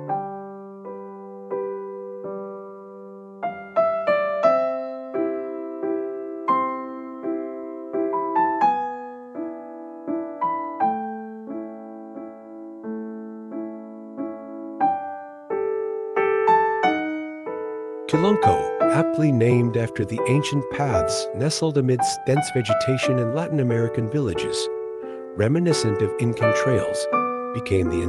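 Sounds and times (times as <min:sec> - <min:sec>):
gentle solo piano melody: 0:00.0 - 0:28.0.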